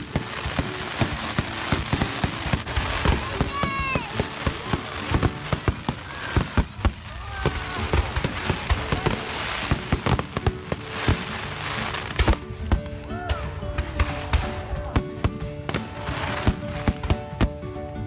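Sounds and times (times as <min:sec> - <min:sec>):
fireworks bangs: 0:00.0 - 0:17.6
fireworks crackling: 0:00.0 - 0:18.0.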